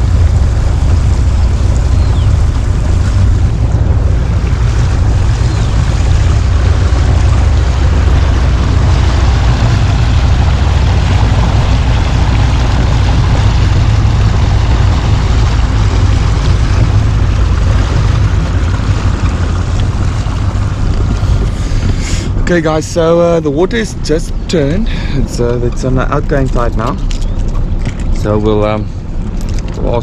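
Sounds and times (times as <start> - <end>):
motorboat engine rumble: 0.0 - 30.0
water rushing: 0.0 - 30.0
wind on microphone: 0.0 - 30.0.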